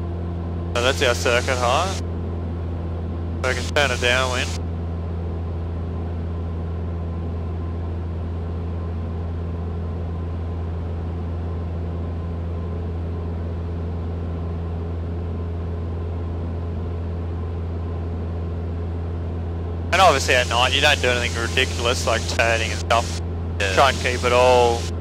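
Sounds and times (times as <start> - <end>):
aircraft engine droning in cabin: 0.0 - 25.0.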